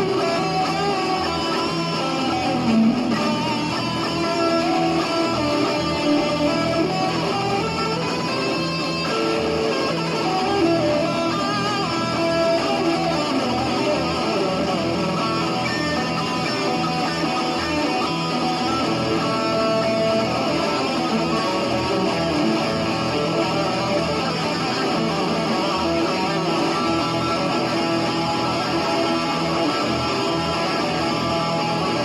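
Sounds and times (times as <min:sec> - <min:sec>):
guitar playing: 0:00.0 - 0:32.0.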